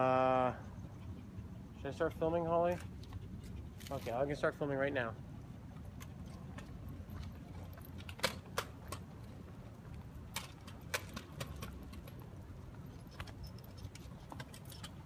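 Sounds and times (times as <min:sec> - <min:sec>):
scooter wheels rolling on concrete: 0:01.8 - 0:15.0.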